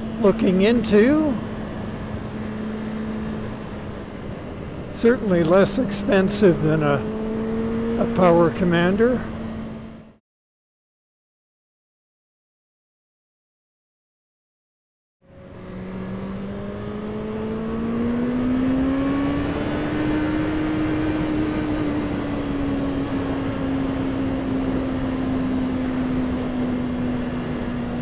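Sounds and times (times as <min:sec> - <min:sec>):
motorcycle engine accelerating: 0:00.0 - 0:10.2, 0:15.2 - 0:28.0
wind and road noise: 0:00.0 - 0:10.2, 0:15.2 - 0:28.0.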